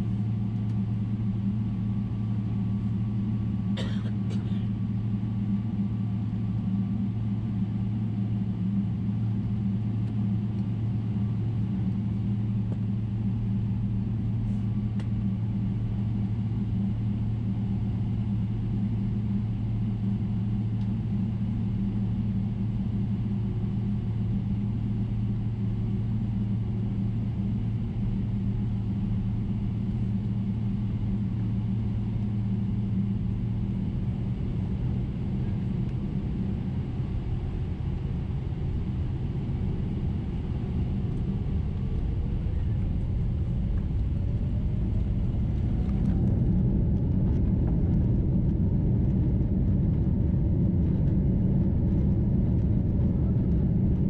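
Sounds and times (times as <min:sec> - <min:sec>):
airplane cabin drone: 0:00.0 - 0:54.0.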